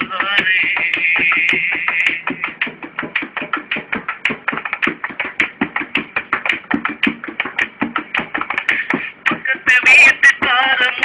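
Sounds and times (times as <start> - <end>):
hands drumming on plastic jug: 0.0 - 11.0.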